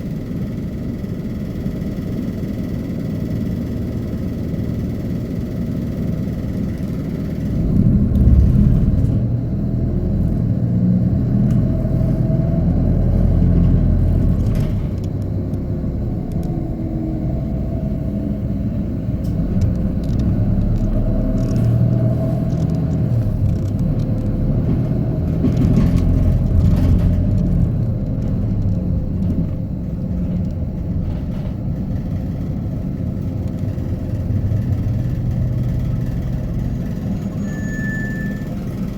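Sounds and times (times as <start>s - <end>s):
bus engine and tyre rumble: 0.0s - 38.9s.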